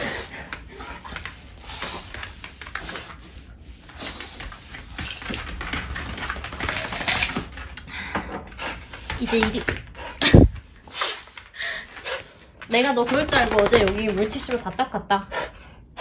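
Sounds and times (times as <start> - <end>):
dog claws clicking on hard floor: 0.0 - 14.9.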